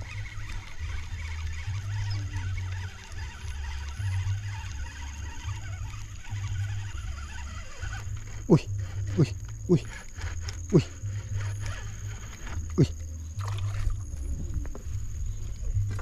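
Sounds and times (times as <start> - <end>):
fishing reel cranking: 0.0 - 16.0
wind rumble on microphone: 0.0 - 16.0.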